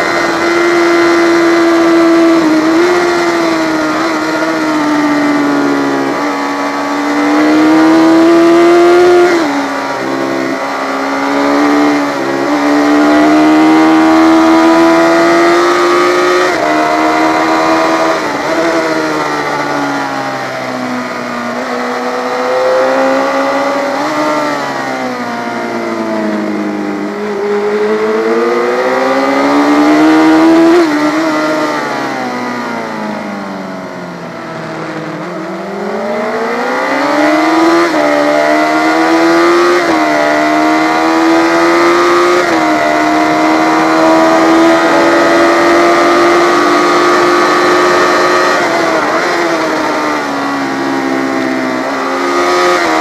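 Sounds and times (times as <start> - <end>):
racing motorcycle engine revving: 0.0 - 53.0.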